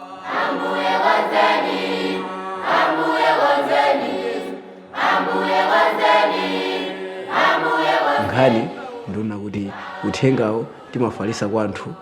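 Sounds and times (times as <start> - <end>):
choir singing: 0.0 - 12.0.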